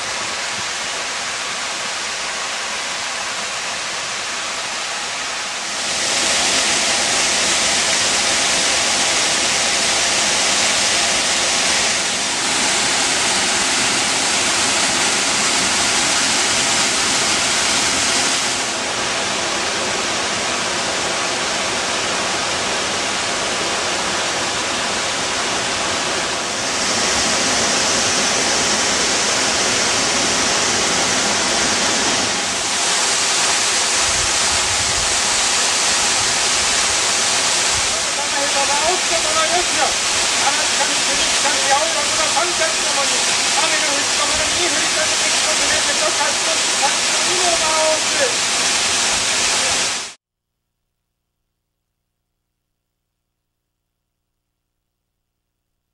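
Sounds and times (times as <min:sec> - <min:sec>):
waterfall rushing: 0:00.0 - 0:50.2.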